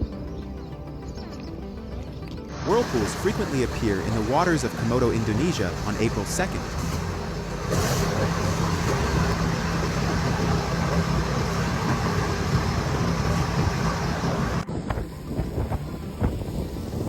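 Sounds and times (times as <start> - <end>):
engine humming: 0.0 - 17.0
broad rushing noise: 2.5 - 17.0.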